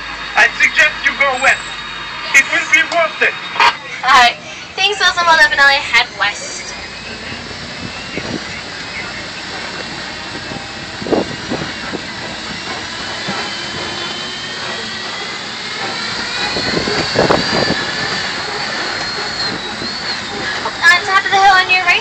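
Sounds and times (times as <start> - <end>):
thin high whine: 0.0 - 22.0
truck engine and road noise: 0.0 - 22.0.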